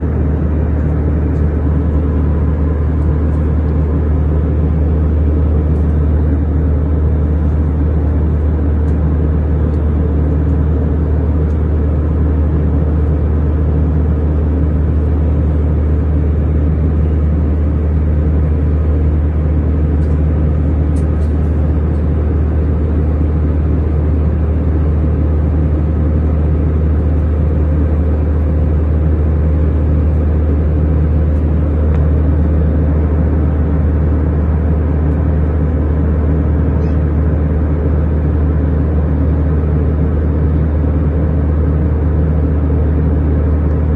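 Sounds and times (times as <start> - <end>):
airplane cabin drone: 0.0 - 43.9.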